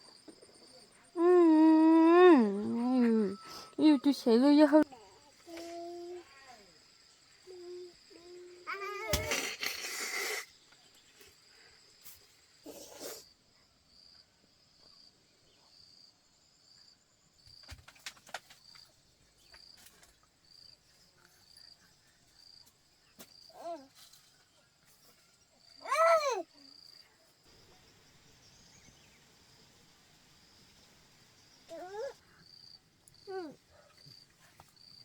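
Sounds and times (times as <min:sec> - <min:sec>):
cricket chirping: 0:00.0 - 0:35.0.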